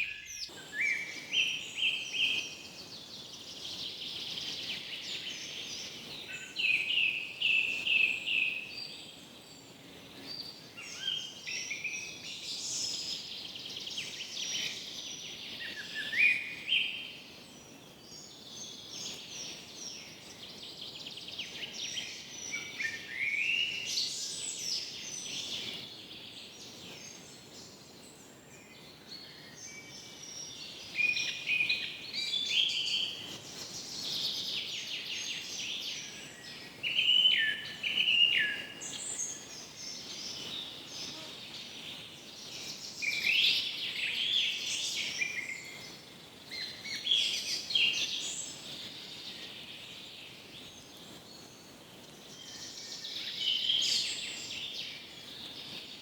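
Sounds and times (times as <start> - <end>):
birds singing and chirping: 0.0 - 56.0
faint background hiss: 0.0 - 56.0.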